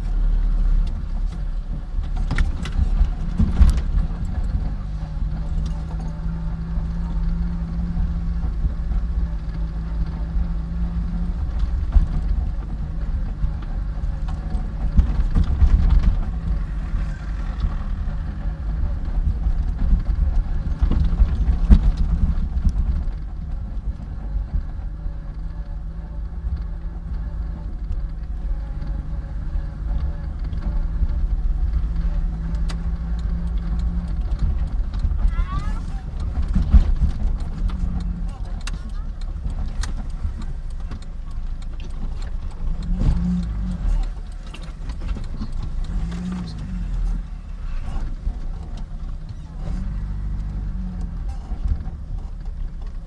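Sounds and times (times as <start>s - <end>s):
car driving on dirt: 0.0s - 53.0s.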